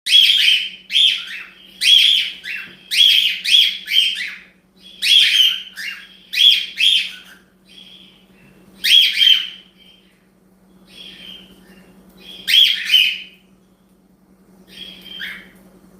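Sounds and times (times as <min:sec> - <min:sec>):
cockatiel chirping: 0:00.1 - 0:08.2, 0:08.8 - 0:10.1, 0:10.9 - 0:13.4, 0:14.7 - 0:15.6.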